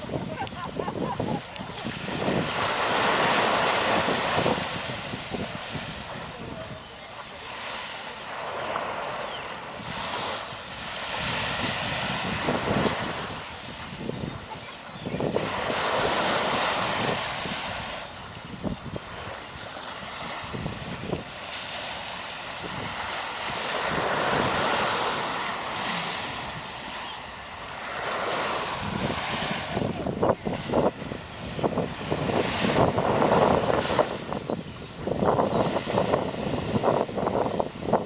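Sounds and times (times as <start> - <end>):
sea waves breaking: 0.0 - 38.0.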